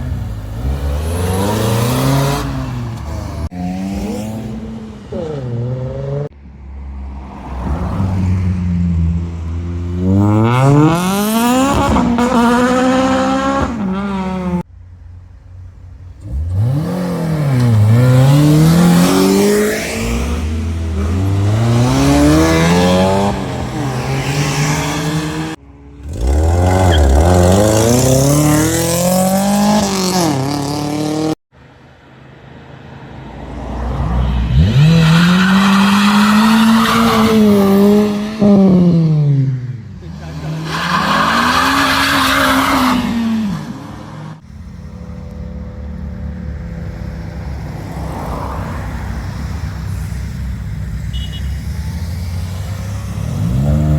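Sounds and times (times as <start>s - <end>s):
cars accelerating hard: 0.0s - 6.4s, 7.1s - 14.6s, 16.2s - 31.4s, 33.5s - 53.9s.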